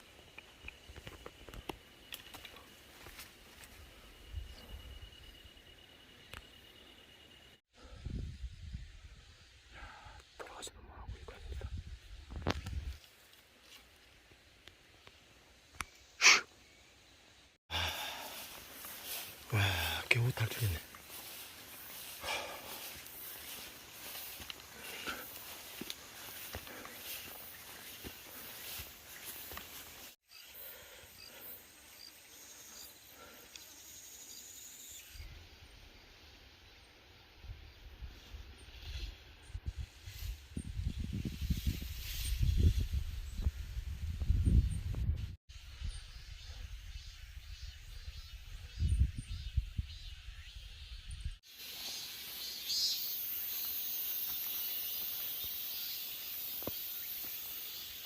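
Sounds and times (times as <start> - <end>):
insects chirping: 0.0 - 43.6, 45.5 - 58.0.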